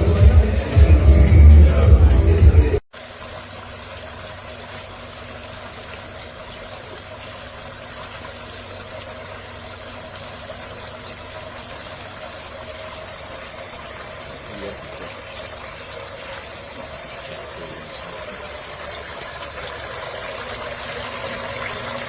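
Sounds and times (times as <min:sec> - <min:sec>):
fountain water falling: 0:02.9 - 0:22.0
faint pump hum: 0:03.0 - 0:22.0.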